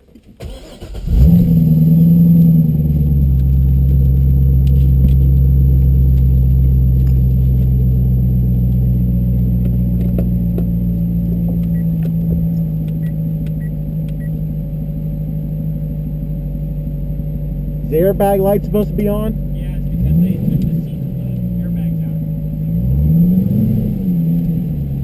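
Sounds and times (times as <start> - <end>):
car engine starting and idling: 0.0 - 25.0.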